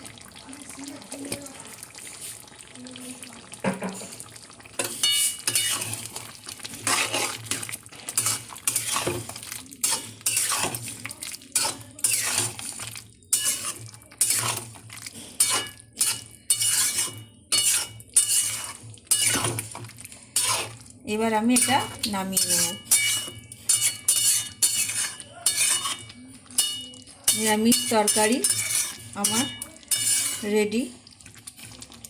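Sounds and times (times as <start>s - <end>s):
spoon scraping a pan: 3.7s - 30.9s.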